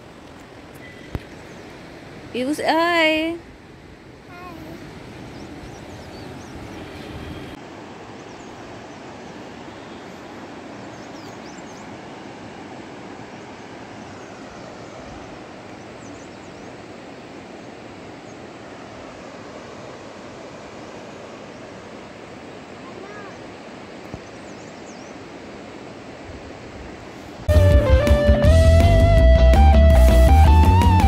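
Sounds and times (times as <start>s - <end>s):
rushing water: 0.0s - 28.9s.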